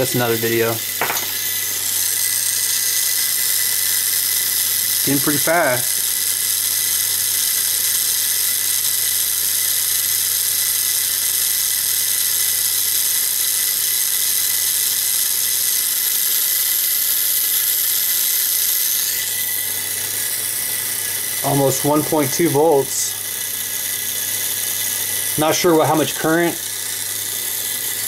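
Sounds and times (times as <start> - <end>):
small electric motor whine: 0.0 - 28.0.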